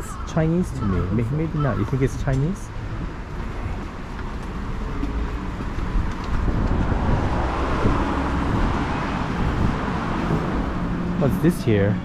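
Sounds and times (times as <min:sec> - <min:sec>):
steady low traffic rumble: 0:00.0 - 0:12.0
vehicle passing on street: 0:00.8 - 0:12.0.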